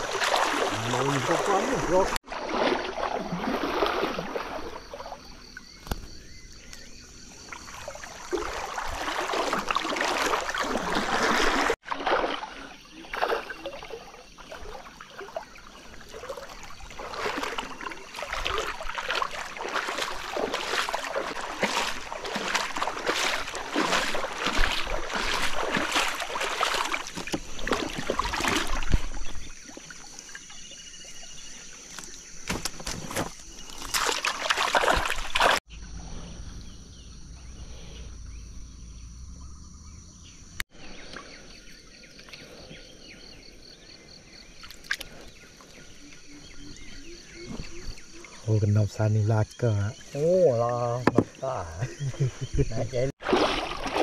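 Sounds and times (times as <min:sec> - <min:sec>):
river water splashing and trickling: 0:00.0 - 0:54.0.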